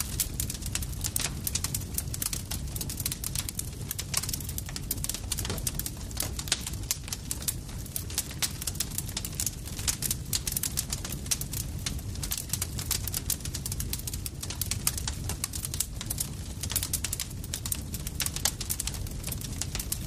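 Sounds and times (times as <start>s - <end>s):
burning wood popping and snapping: 0.0s - 20.0s
low rumble of flames: 0.0s - 20.0s.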